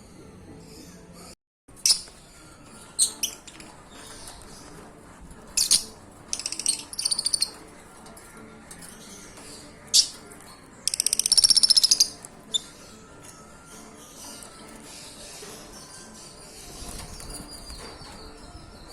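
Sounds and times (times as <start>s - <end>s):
lovebirds chirping shrilly: 1.8s - 8.0s, 8.6s - 18.9s.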